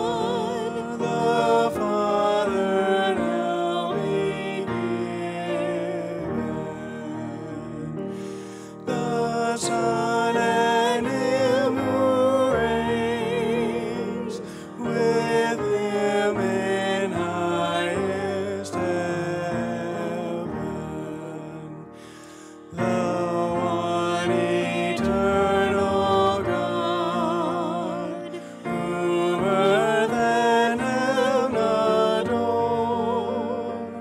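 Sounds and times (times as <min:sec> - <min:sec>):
grand piano: 0:00.0 - 0:34.0.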